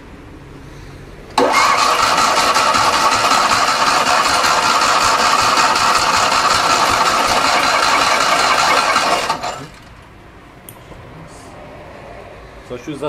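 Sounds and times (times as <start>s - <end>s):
car engine starting and running: 0.9s - 11.5s.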